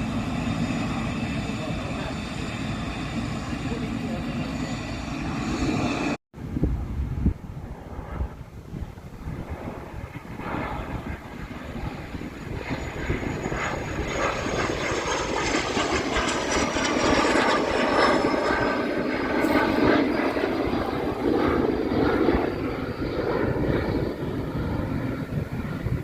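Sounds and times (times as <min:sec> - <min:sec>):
jet engines at high power: 0:00.0 - 0:26.0.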